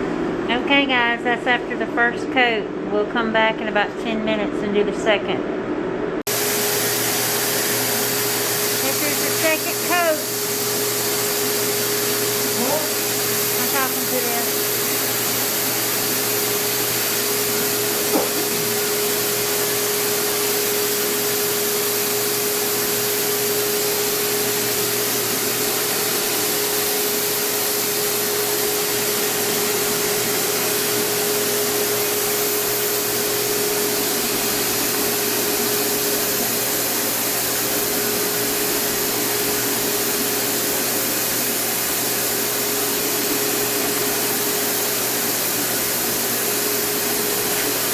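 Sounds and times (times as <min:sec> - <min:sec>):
electric blower motor droning: 0:06.3 - 0:47.9.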